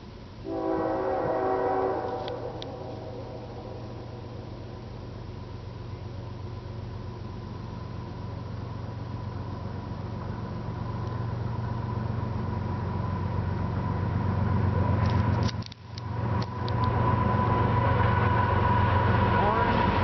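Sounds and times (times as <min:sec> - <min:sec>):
diesel locomotive engine rumble: 0:00.0 - 0:20.0.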